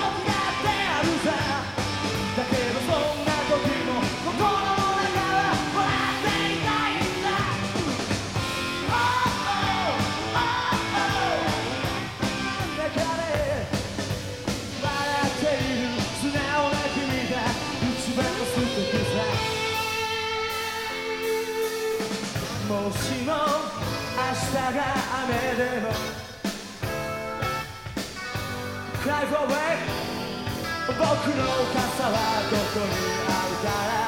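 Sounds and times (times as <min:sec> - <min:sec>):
electric guitar lead: 0:00.0 - 0:34.0
rock band playing live: 0:00.0 - 0:34.0.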